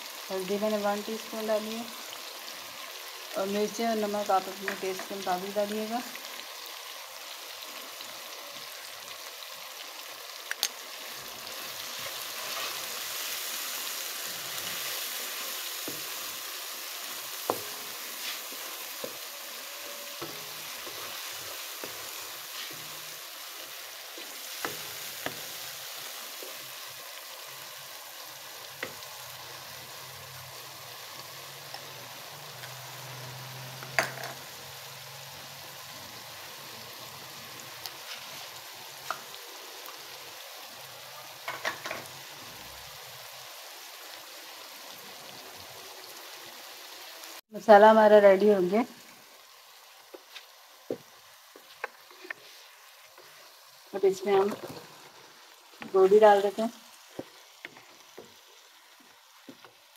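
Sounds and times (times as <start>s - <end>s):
masala sizzling in hot oil: 0.0s - 59.9s.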